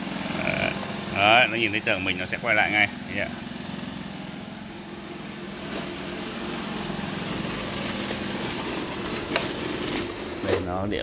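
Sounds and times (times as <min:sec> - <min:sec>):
robot vacuum humming: 0:00.0 - 0:11.0.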